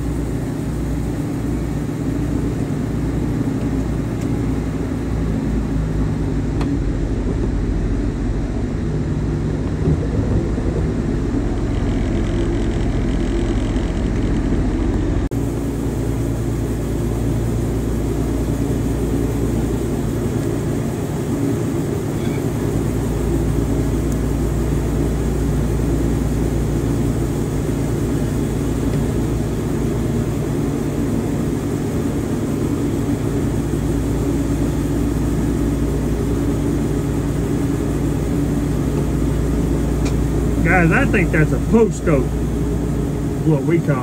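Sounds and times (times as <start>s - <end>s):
sawmill engine running: 0.0s - 44.0s.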